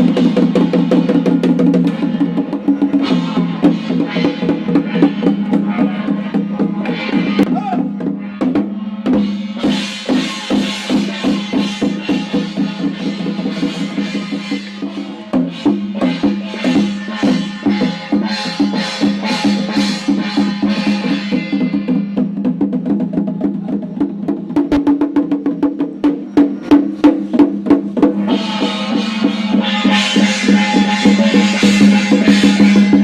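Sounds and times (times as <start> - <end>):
drum strokes: 0.0 - 33.0.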